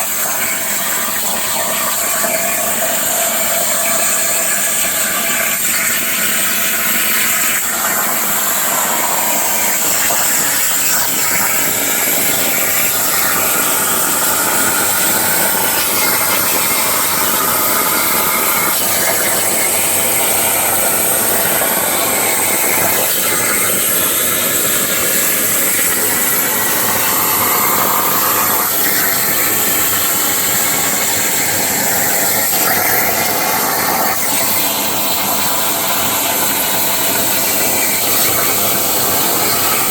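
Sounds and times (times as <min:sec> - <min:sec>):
plasma torch cutting steel: 0:00.0 - 0:39.9.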